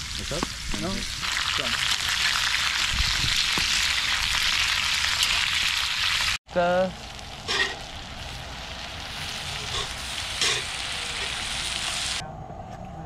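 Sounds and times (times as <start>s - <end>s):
meat sizzling: 0.0s - 12.2s.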